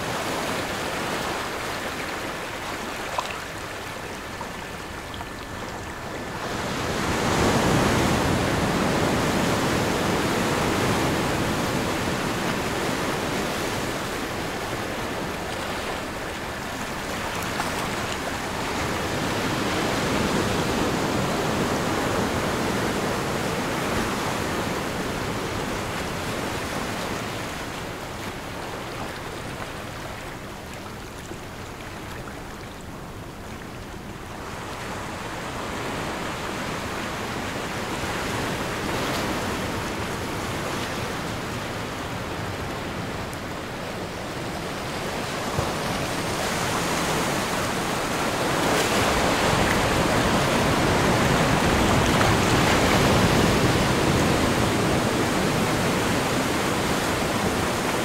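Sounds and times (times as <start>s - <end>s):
ocean surf washing: 0.0s - 58.0s.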